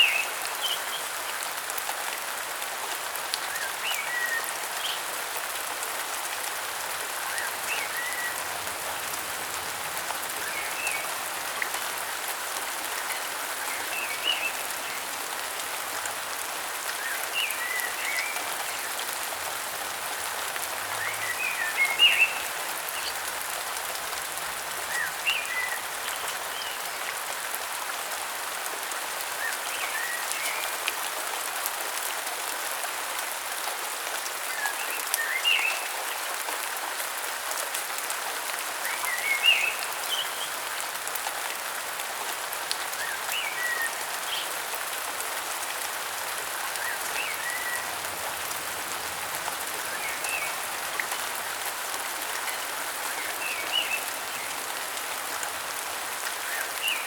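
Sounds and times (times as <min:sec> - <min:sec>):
rainfall hissing: 0:00.0 - 0:27.6, 0:38.8 - 0:57.0.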